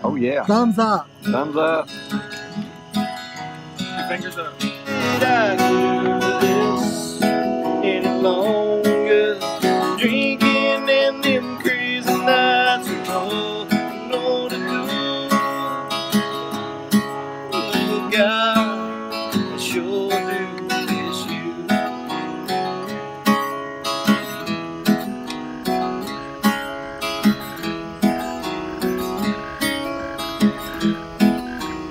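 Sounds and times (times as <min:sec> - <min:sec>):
acoustic guitar strumming: 0:00.0 - 0:31.9.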